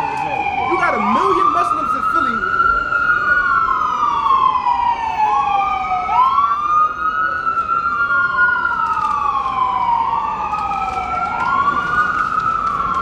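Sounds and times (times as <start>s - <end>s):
emergency sirens wailing: 0.0s - 13.0s.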